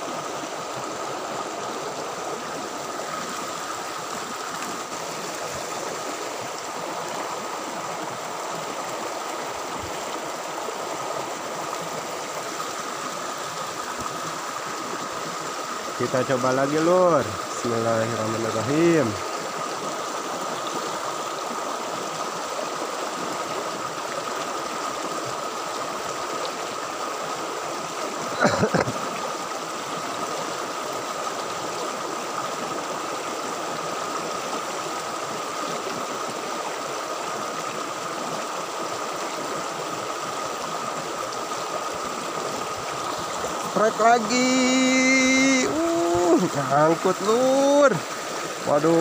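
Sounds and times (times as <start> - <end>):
stream water rushing: 0.0 - 49.0.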